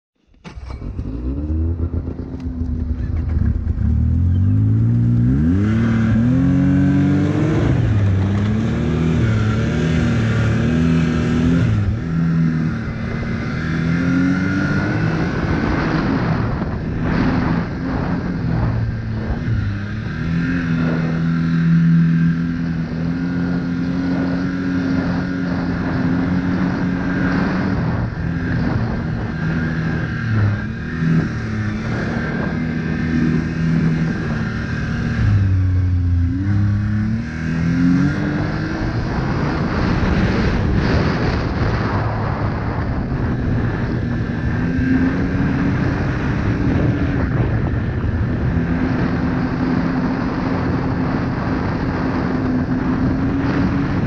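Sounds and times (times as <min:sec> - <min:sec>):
snowmobile engine accelerating: 0:00.4 - 0:54.0.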